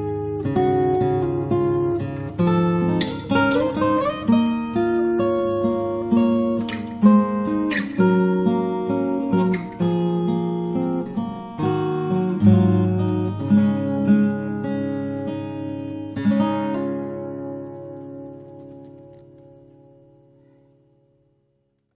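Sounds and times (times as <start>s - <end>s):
acoustic guitar playing: 0.0s - 21.8s.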